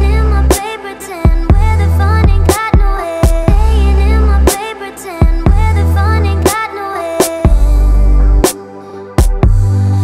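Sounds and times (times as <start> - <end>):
electronic remix music: 0.0 - 10.0.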